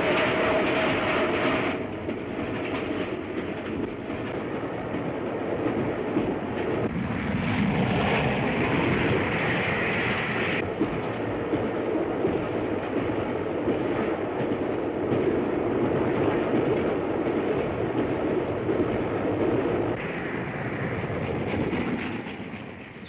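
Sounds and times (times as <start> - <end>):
steam train rumbling on track: 0.0 - 23.0.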